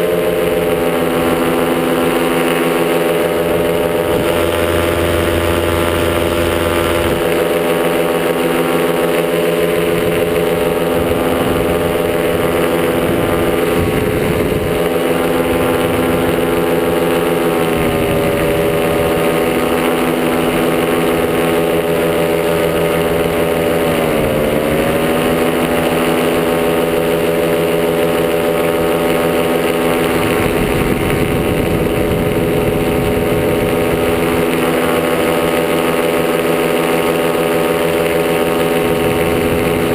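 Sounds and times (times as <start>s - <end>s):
paramotor engine running: 0.0s - 39.9s
wind rumble on microphone: 0.0s - 39.9s.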